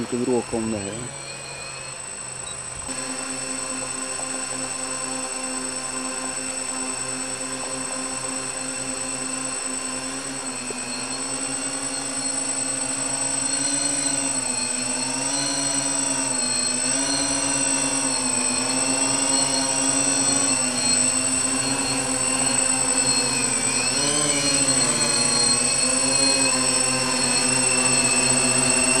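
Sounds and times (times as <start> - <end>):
drone motors humming: 0.0 - 29.0
thin high whine: 0.0 - 29.0.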